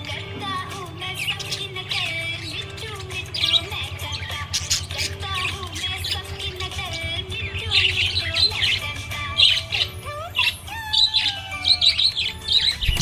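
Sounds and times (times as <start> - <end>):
budgerigar chirping: 0.0 - 13.0.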